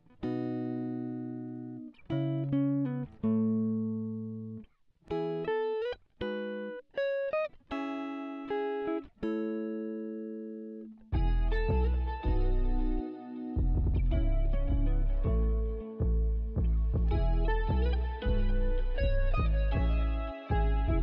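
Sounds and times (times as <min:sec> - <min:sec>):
guitar notes ringing: 0:00.0 - 0:21.0.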